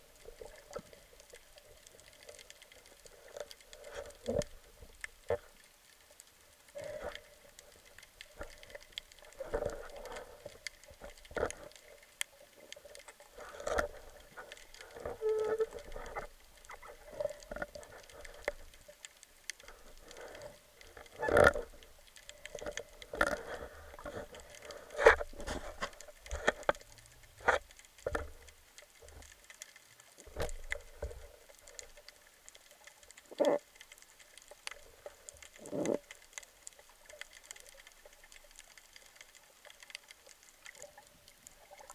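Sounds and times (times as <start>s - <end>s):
underwater clicks and knocks: 6.7s - 41.0s.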